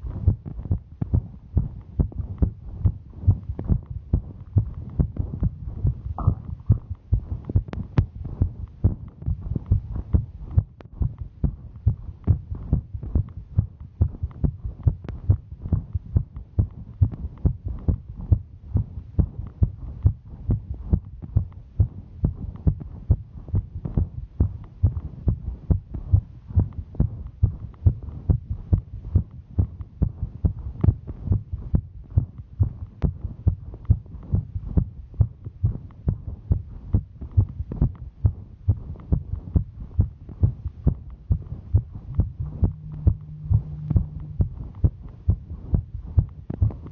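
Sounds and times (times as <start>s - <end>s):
fast heartbeat thumps: 0.0s - 46.9s.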